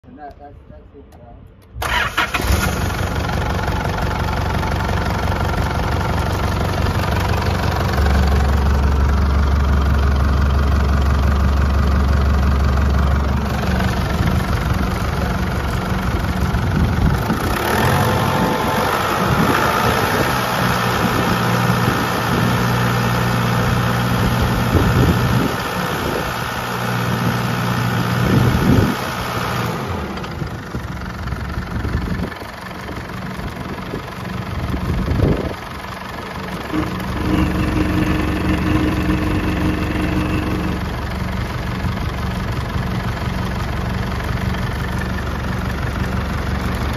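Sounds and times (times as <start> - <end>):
diesel engine idling: 1.8 - 46.9.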